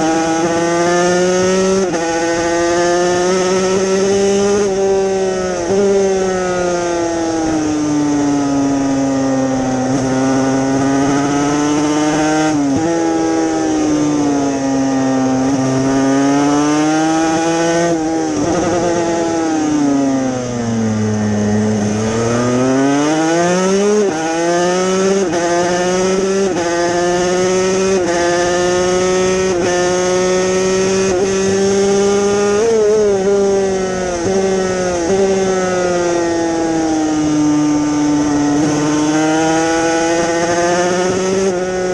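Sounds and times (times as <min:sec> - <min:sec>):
racing motorcycle engine: 0:00.0 - 0:41.9.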